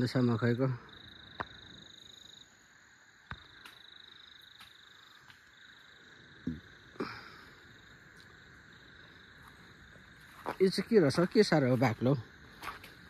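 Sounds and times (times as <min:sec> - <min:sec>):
cricket trill: 0:00.0 - 0:13.0.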